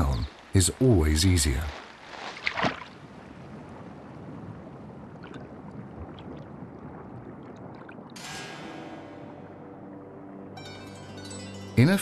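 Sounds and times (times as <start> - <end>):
water rushing underwater: 0.0 - 10.5.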